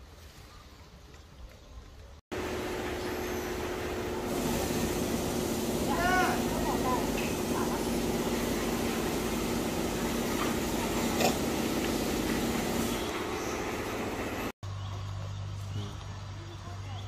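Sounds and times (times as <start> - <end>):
steady mechanical hum: 2.3 - 17.0.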